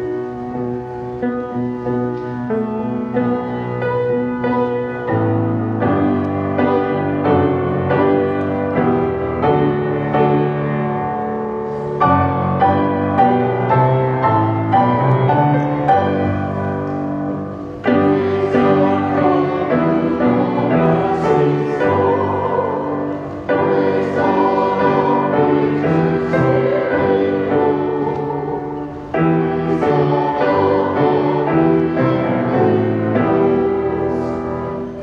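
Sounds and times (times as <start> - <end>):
choir singing a hymn: 0.0 - 35.0
piano accompaniment: 0.0 - 35.0.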